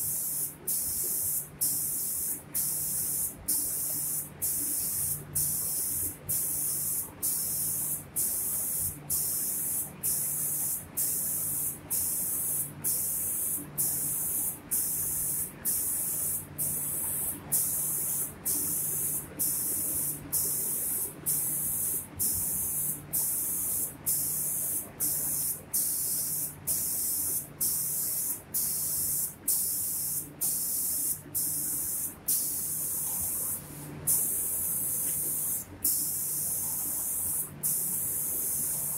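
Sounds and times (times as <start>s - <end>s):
spray guns hissing: 0.0s - 38.9s.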